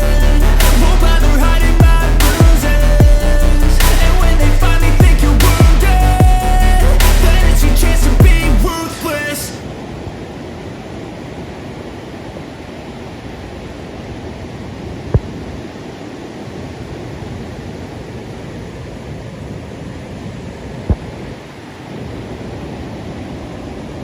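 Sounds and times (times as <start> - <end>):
ocean surf rushing: 0.0 - 24.0.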